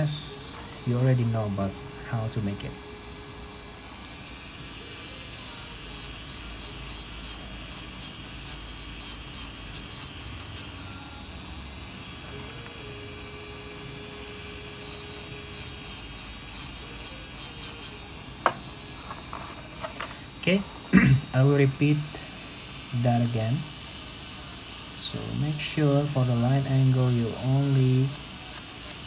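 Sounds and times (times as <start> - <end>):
dental drill whining: 0.0 - 29.0.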